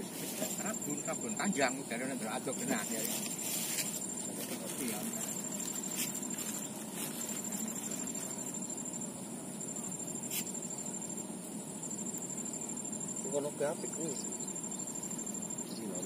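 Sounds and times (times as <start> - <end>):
high-pitched insect trilling: 0.0 - 16.0.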